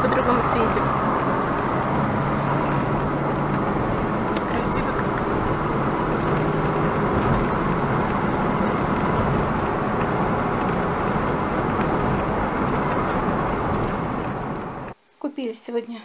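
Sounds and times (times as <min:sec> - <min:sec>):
car cabin road noise: 0:00.0 - 0:15.0.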